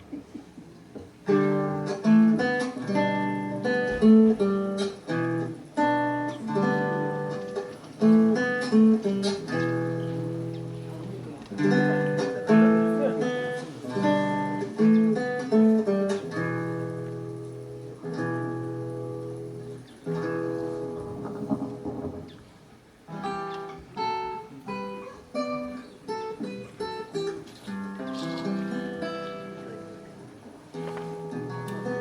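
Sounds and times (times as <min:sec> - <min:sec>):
acoustic guitar melody: 0:00.0 - 0:32.0.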